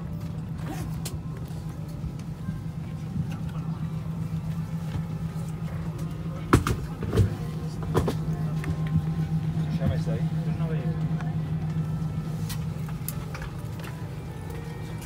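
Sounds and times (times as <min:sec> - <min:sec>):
airplane cabin hum: 0:00.0 - 0:15.0.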